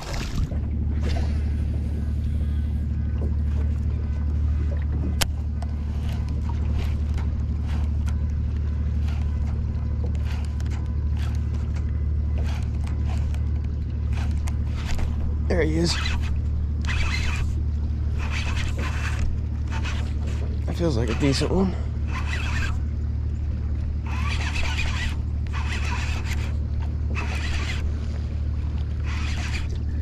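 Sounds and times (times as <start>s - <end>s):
boat motor humming: 0.0s - 30.0s.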